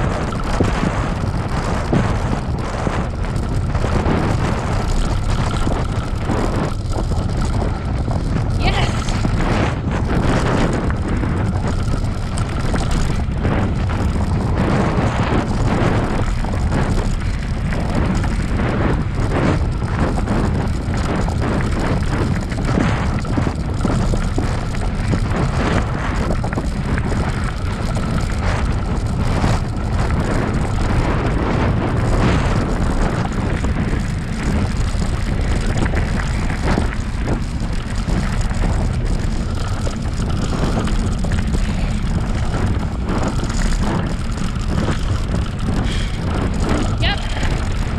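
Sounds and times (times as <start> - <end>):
bicycle tyres rolling on dirt: 0.0 - 47.9
wind buffeting microphone: 0.0 - 47.9.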